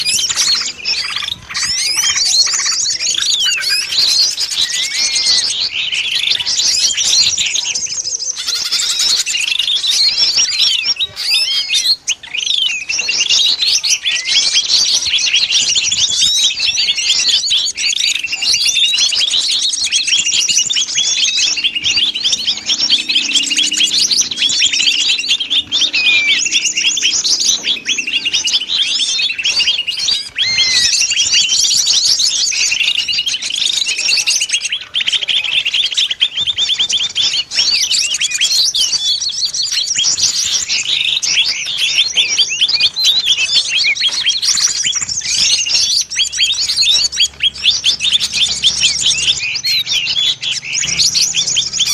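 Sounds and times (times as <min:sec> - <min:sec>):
small songbirds chirping: 0:00.0 - 0:51.9.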